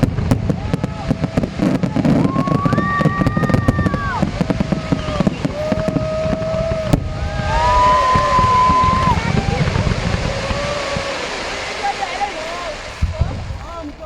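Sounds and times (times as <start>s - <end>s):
crowd: 0.0s - 14.0s
fireworks popping and crackling: 0.0s - 14.0s
long high-pitched calls: 0.9s - 13.0s.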